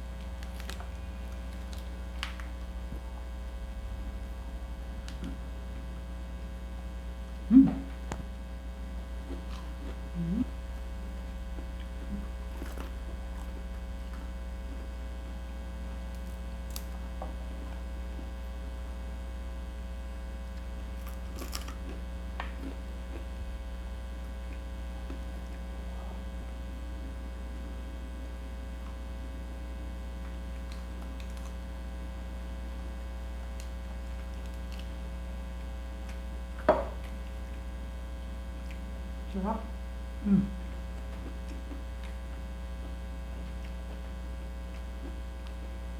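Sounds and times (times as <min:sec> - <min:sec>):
electrical mains hum: 0:00.0 - 0:45.9.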